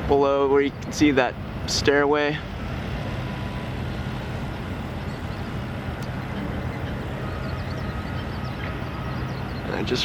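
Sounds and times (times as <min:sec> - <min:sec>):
engines and machinery rumbling: 0:00.0 - 0:10.0.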